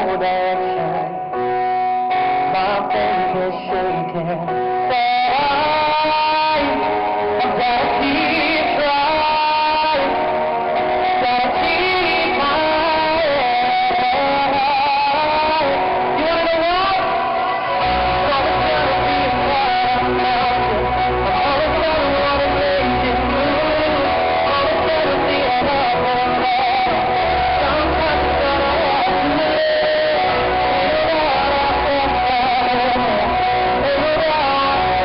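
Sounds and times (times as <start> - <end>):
electric guitar: 0.0 - 35.0
live pop band through speakers: 0.0 - 35.0.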